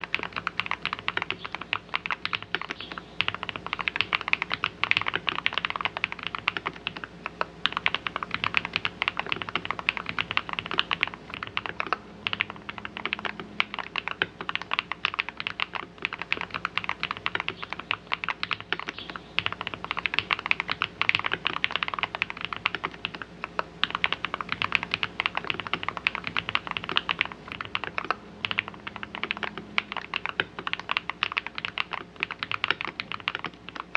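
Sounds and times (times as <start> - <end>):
fast typing on keyboard: 0.0 - 33.9.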